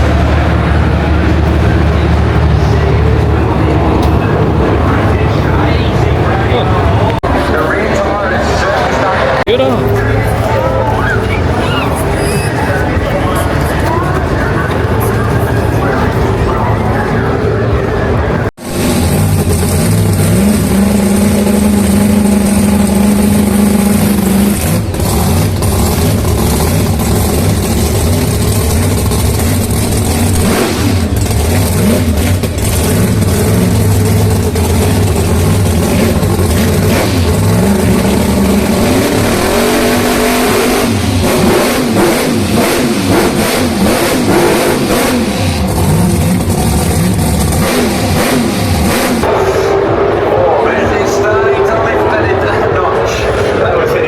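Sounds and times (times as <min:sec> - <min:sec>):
drag car engine revving: 0:00.0 - 0:54.0.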